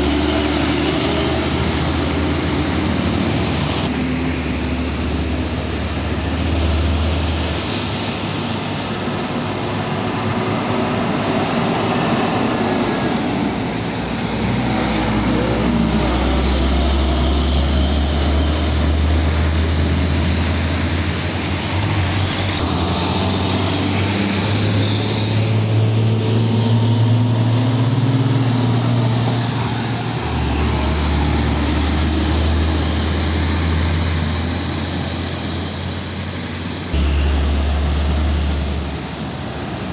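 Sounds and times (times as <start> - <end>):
diesel trucks passing: 0.0 - 39.9
tyres hissing on wet asphalt: 0.0 - 39.9.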